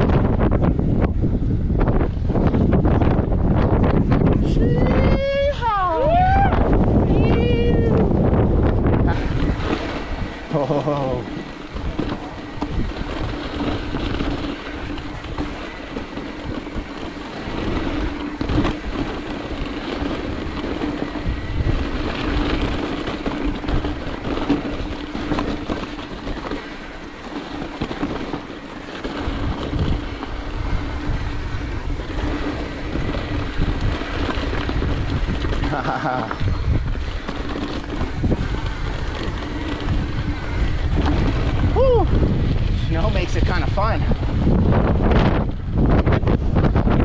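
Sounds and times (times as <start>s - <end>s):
bike rattling over bumps: 0.0s - 47.0s
tyres rumbling over dirt and rock: 0.0s - 47.0s
wind on microphone: 0.0s - 47.0s.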